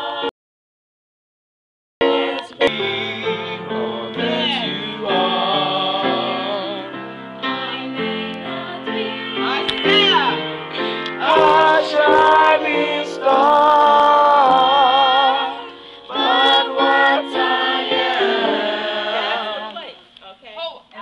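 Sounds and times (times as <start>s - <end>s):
gospel choir singing: 0.0s - 0.3s, 2.0s - 20.1s.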